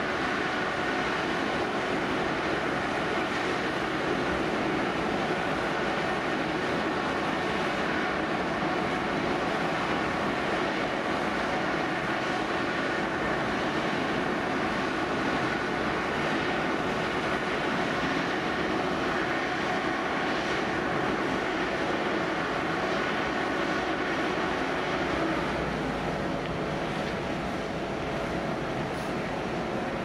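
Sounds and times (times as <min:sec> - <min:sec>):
fire engine mechanical drone: 0:00.0 - 0:30.0.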